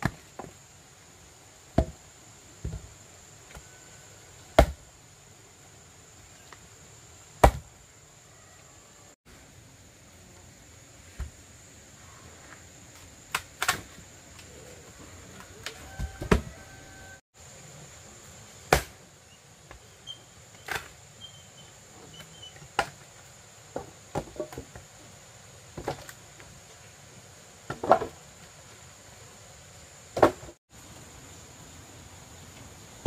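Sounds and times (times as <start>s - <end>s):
high insect drone: 0.2s - 33.0s.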